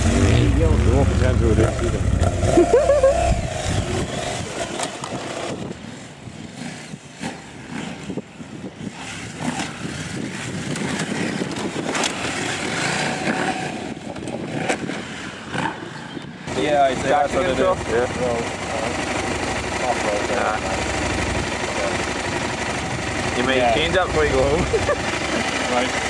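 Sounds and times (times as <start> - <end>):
motorcycle engine passing: 0.0 - 5.8, 6.6 - 26.0.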